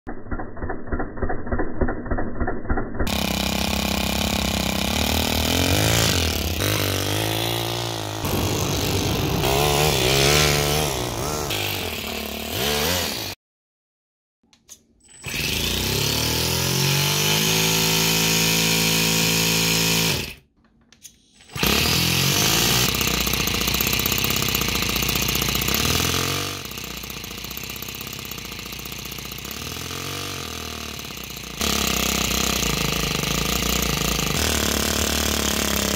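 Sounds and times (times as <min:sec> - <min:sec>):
model engine revving: 0:03.1 - 0:13.4, 0:15.2 - 0:20.4, 0:21.5 - 0:35.9.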